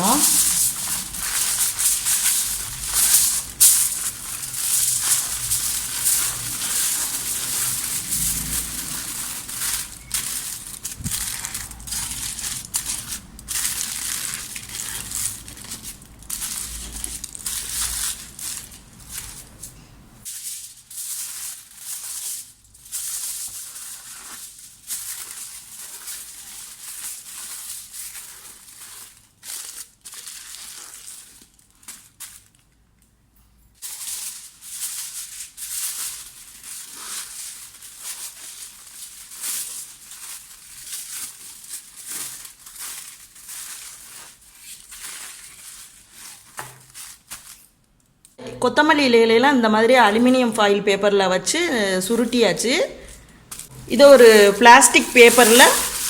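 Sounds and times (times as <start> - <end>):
aluminium foil crinkling: 0.0 - 33.2, 33.8 - 48.4, 52.0 - 56.0.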